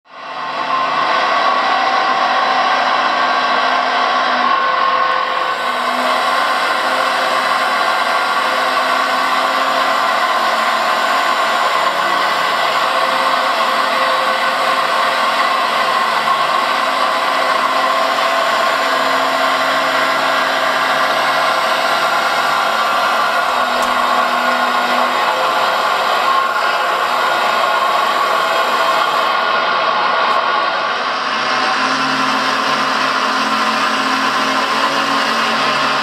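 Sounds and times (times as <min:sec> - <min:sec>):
hydraulic pump whining: 0:00.1 - 0:36.0.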